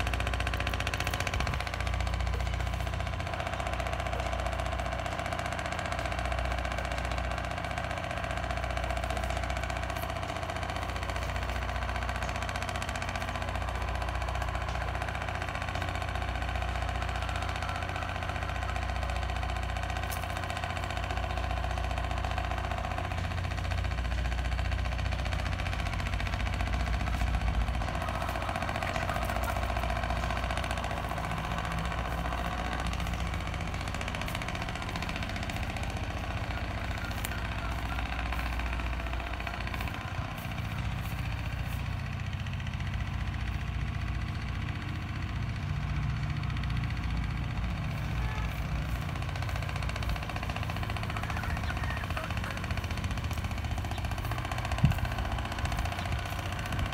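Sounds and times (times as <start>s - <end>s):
motor running steadily: 0.0s - 56.9s.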